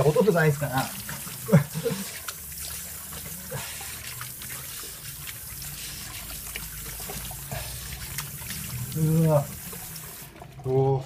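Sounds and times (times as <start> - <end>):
hands splashing water: 0.0 - 10.6
tap water running into sink: 0.0 - 10.7.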